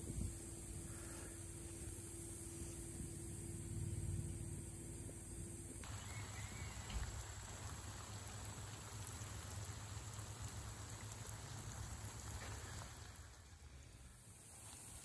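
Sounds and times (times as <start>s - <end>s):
sprinklers spraying water on leaves: 0.0s - 15.0s.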